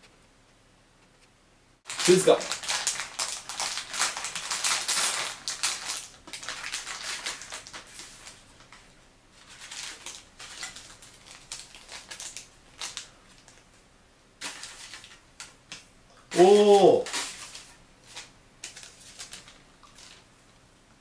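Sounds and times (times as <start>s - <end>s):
plastic packaging crinkling: 1.9s - 13.7s, 14.4s - 15.8s, 16.6s - 20.3s.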